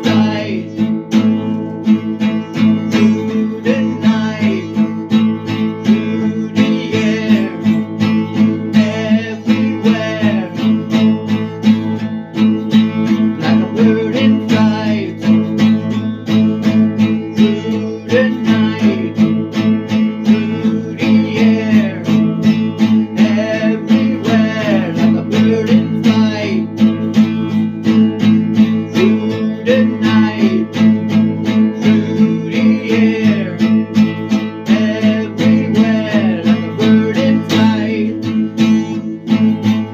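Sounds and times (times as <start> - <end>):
strummed acoustic guitar music: 0.0 - 39.9.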